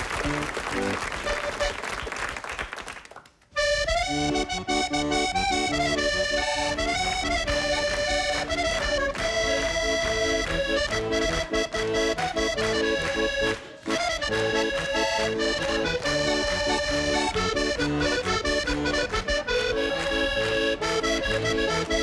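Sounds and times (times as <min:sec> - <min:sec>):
button accordion solo tune: 0:00.0 - 0:01.9, 0:03.6 - 0:22.0
audience applauding: 0:00.0 - 0:03.5, 0:07.8 - 0:22.0.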